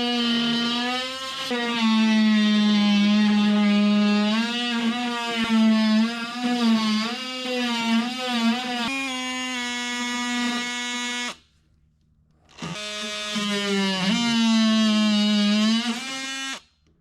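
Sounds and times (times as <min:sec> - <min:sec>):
multi-tool cutting wood: 0:00.0 - 0:11.4, 0:12.4 - 0:16.8.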